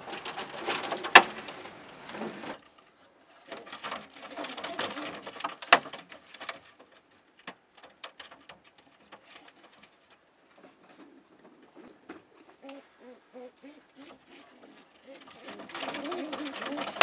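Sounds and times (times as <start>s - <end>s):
pigeons rustling in a crate: 0.0s - 17.0s.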